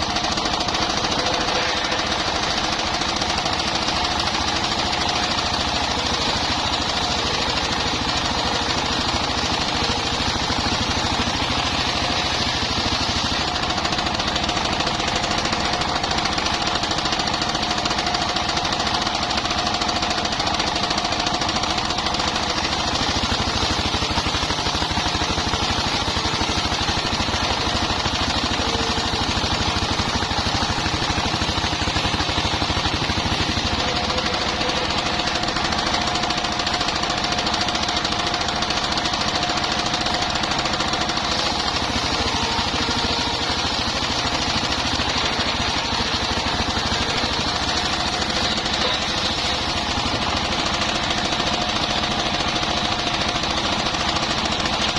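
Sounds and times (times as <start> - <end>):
engine knocking: 0.0 - 54.9
saw blade whine: 0.0 - 54.9.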